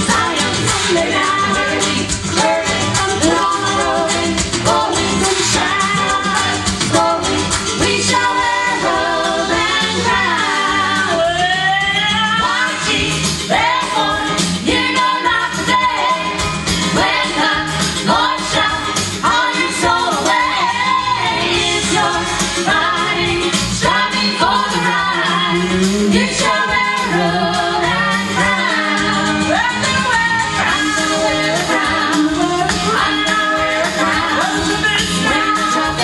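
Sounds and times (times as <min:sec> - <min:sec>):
vocal group singing gospel: 0:00.0 - 0:36.0.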